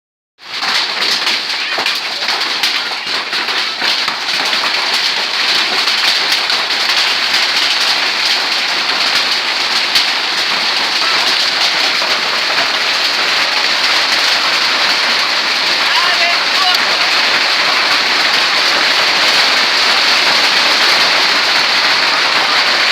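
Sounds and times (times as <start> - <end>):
hailstones ticking: 0.4 - 22.9
heavy rain hiss: 0.4 - 22.9.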